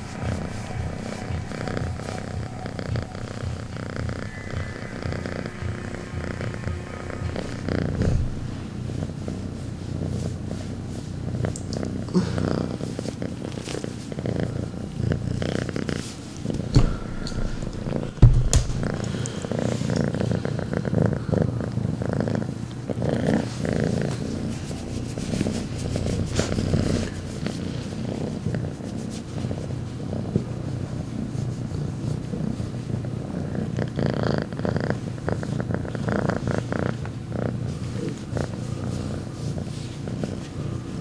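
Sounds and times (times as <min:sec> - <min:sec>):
cat purring loudly: 0:00.0 - 0:41.0.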